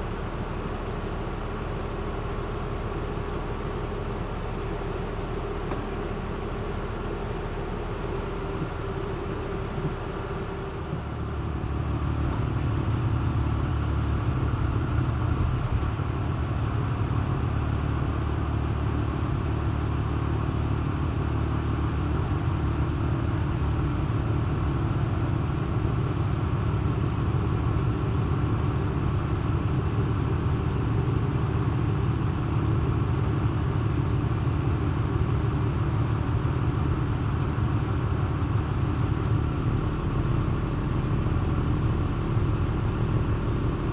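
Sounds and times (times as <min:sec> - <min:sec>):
motor running low rumble: 0:00.0 - 0:43.9.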